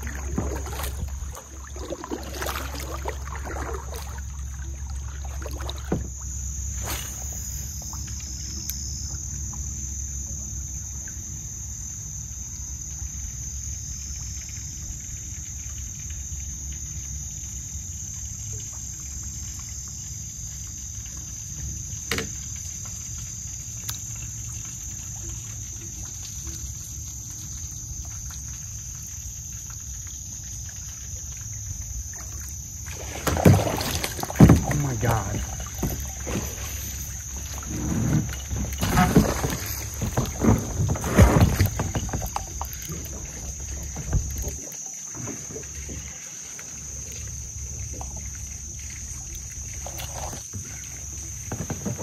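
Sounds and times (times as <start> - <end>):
insects chirring: 0.0 - 52.0.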